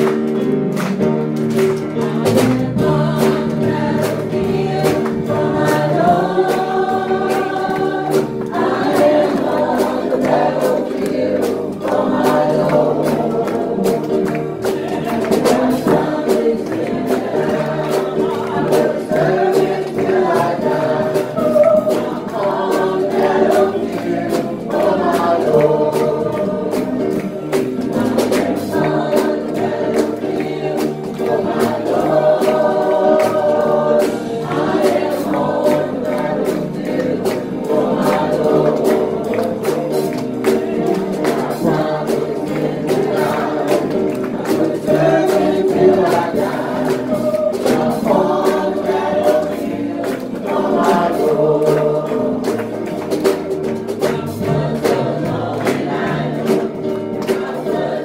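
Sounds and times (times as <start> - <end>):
choir singing a hymn: 1.6 - 58.0.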